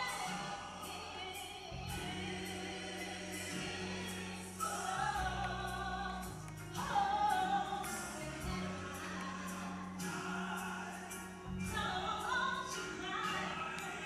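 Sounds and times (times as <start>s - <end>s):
woman singing into microphone: 0.0s - 2.9s, 3.5s - 9.7s, 11.6s - 14.0s.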